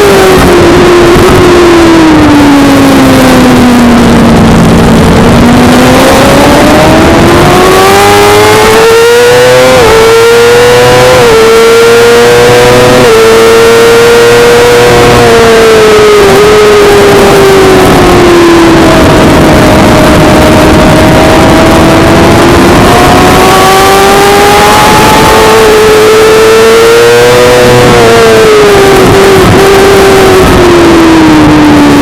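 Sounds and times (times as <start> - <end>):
motorcycle engine revving: 0.0 - 32.0
wind rush: 0.0 - 32.0.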